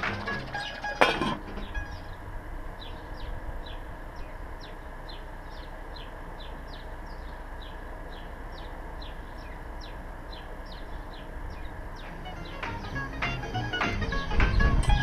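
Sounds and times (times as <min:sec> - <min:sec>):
small bird chirping: 0:00.0 - 0:01.0, 0:01.6 - 0:13.4
steady low rumble: 0:00.0 - 0:15.0.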